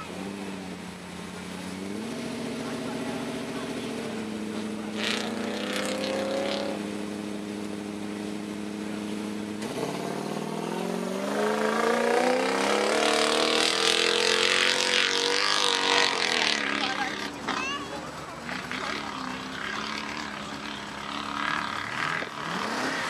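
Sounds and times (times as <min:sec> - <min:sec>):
engine idling and revving: 0:00.0 - 0:23.0.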